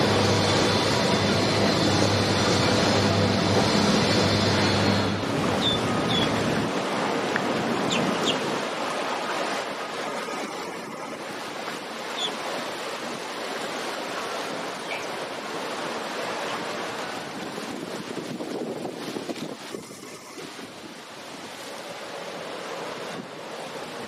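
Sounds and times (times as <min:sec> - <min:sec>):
choppy river water: 0:00.0 - 0:24.0.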